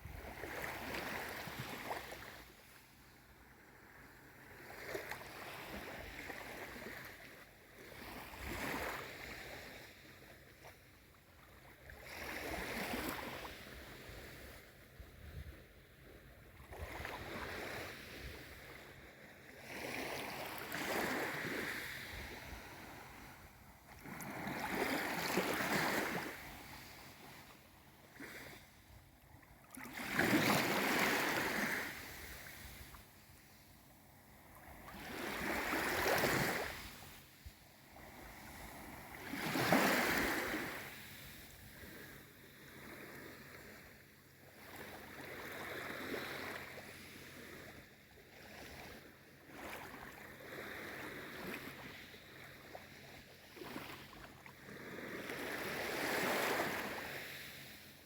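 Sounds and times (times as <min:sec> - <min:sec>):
small waves lapping: 0:00.0 - 0:58.0.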